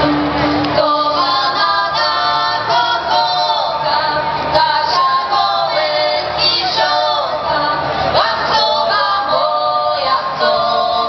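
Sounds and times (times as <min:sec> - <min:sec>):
women singing with vibrato: 0:00.0 - 0:11.0.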